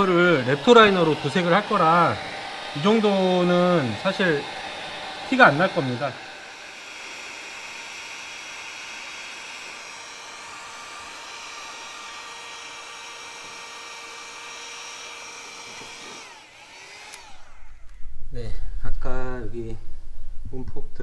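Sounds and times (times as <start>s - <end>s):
heat gun blowing hiss with whine: 0.0s - 18.3s.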